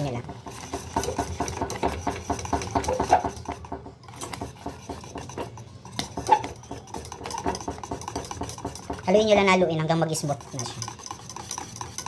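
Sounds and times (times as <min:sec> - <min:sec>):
whisk scraping metal saucepan: 0:00.0 - 0:12.0.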